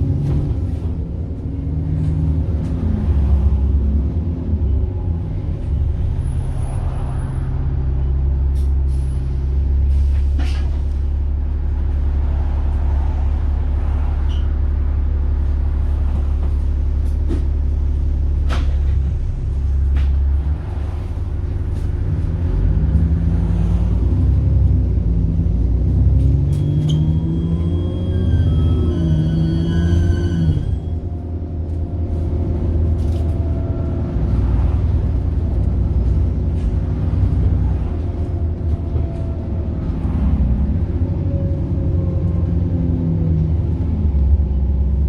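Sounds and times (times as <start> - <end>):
bus engine droning: 0.0 - 45.0.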